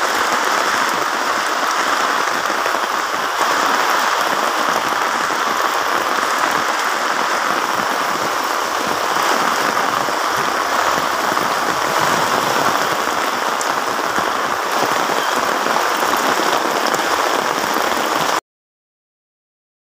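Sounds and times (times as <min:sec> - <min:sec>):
heavy rain on concrete road: 0:00.0 - 0:18.4.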